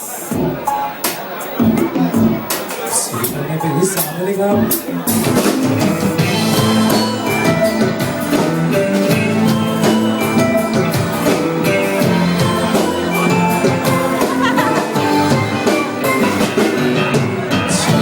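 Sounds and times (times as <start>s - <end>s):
drum kit beat: 0.0s - 18.0s
held melody notes: 0.0s - 18.0s.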